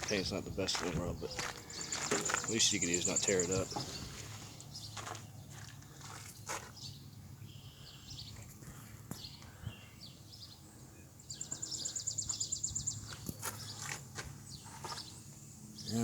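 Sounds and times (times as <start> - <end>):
bird chirps: 1.2 - 5.6, 6.7 - 8.5, 9.1 - 16.0.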